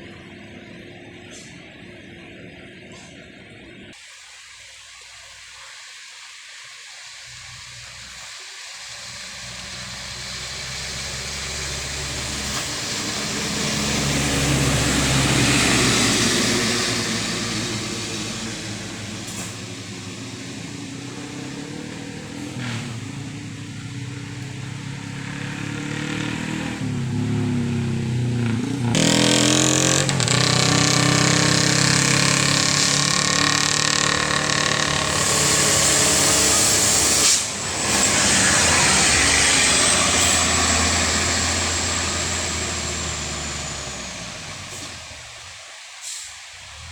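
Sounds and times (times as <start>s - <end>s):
heavy rain hissing: 4.0s - 28.1s, 28.8s - 46.9s
tyre spray on wet road: 7.3s - 46.9s
heavy trucks passing: 8.8s - 46.9s.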